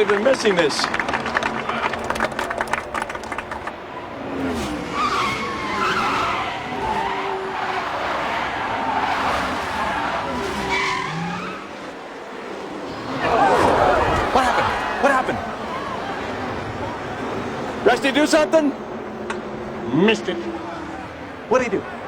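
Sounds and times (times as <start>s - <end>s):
stock cars racing: 0.0s - 22.0s
tires squealing: 0.0s - 22.0s.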